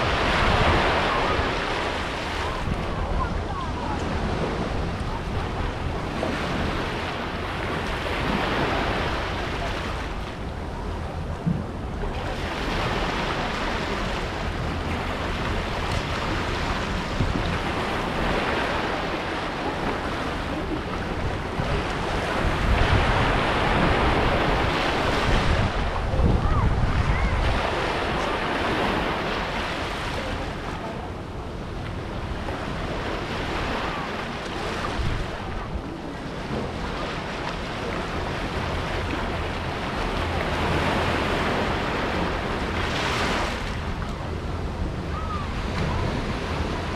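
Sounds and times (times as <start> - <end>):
small waves washing on shore: 0.0 - 46.9
wind buffeting microphone: 0.0 - 46.9.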